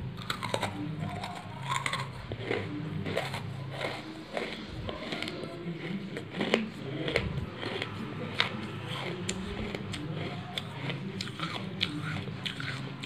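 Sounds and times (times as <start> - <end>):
crunchy chewing of clay: 0.0 - 13.0
low steady hum: 0.0 - 13.0.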